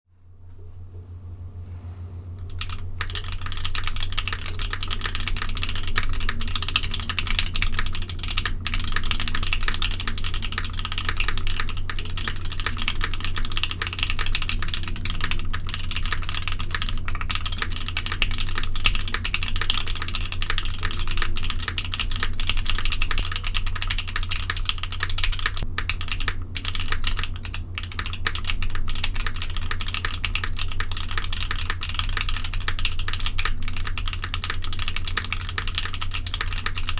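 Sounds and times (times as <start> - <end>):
mechanical keyboard typing: 2.4 - 36.9.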